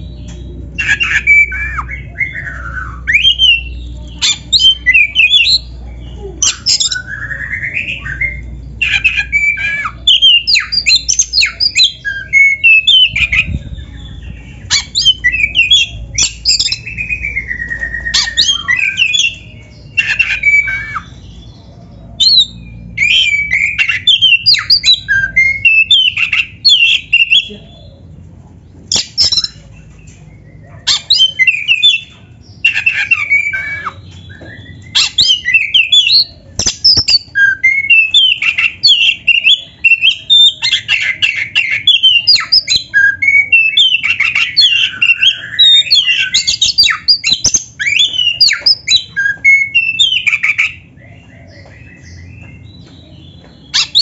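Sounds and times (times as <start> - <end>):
songbird whistles and trills: 0.0 - 28.0, 28.9 - 54.0.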